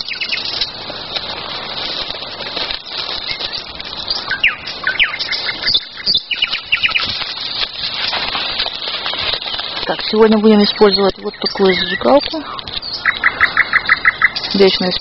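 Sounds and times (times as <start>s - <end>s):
songbirds chirping and whistling: 0.0s - 0.9s, 2.6s - 15.0s
steady background hiss: 0.0s - 15.0s.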